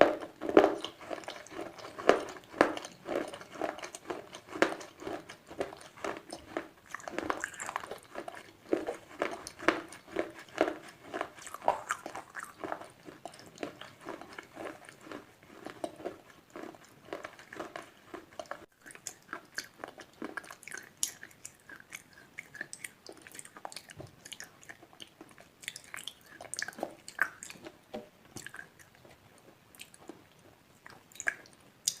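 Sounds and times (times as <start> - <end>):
slate pencils crunching in mouth: 0.0 - 32.0.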